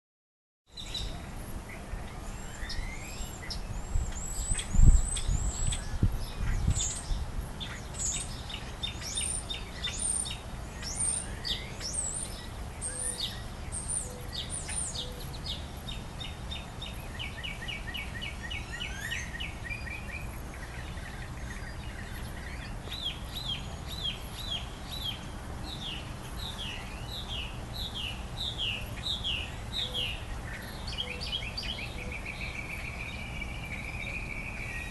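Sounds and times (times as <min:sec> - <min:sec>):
songbirds chirping and singing: 0:00.7 - 0:34.9.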